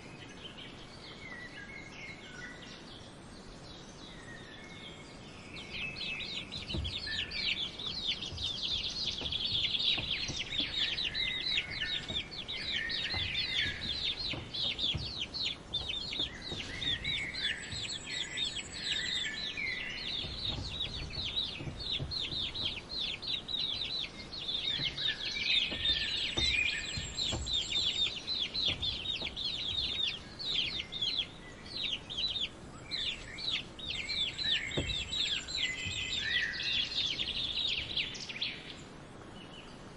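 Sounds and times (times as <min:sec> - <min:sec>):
chicks peeping: 0:05.6 - 0:38.4
adult chickens calling: 0:05.6 - 0:39.0.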